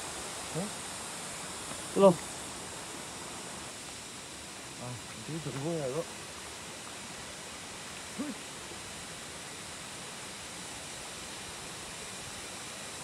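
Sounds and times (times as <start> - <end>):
outdoor rushing hiss: 0.0 - 13.0.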